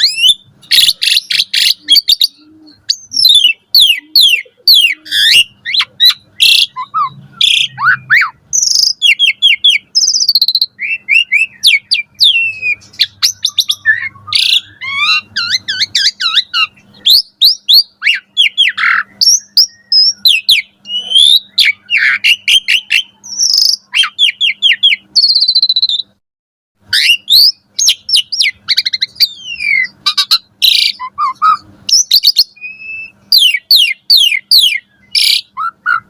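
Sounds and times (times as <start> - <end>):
starling singing: 0.0 - 26.2, 26.8 - 36.0.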